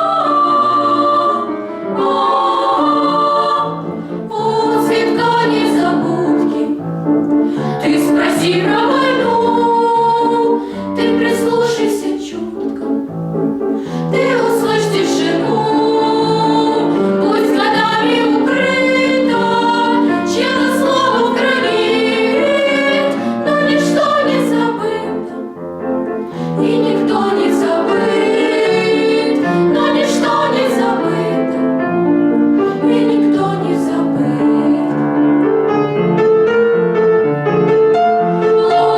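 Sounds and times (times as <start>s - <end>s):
vocal ensemble singing in harmony: 0.0s - 36.2s, 37.9s - 38.9s
piano accompaniment: 0.0s - 38.9s.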